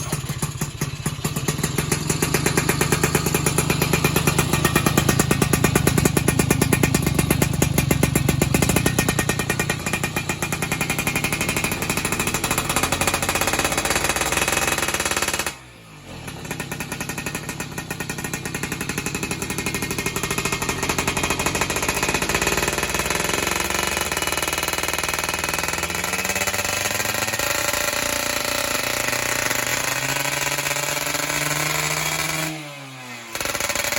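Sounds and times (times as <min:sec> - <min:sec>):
two-stroke engine popping: 0:00.0 - 0:33.9.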